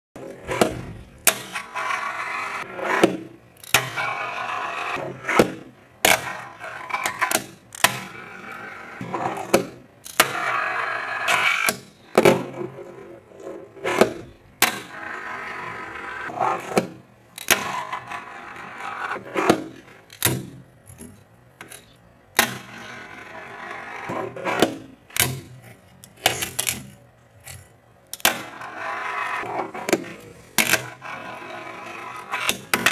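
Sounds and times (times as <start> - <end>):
fingerboard wheels rolling: 0.2 - 21.8, 22.4 - 32.9.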